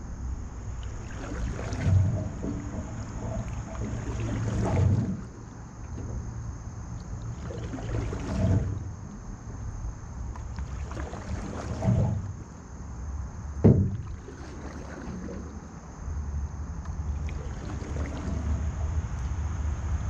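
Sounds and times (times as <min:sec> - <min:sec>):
paddle swishing through water: 0:00.6 - 0:12.9, 0:13.6 - 0:15.9, 0:16.9 - 0:19.7.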